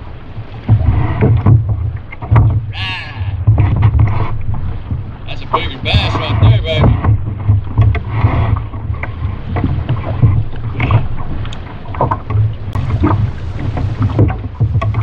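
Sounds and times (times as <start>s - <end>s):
water slapping against plastic hull: 0.0s - 15.0s
wind buffeting microphone: 0.0s - 15.0s.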